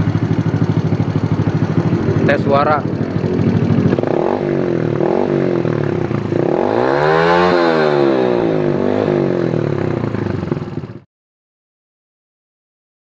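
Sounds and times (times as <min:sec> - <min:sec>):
motorcycle engine revving: 0:00.0 - 0:11.1.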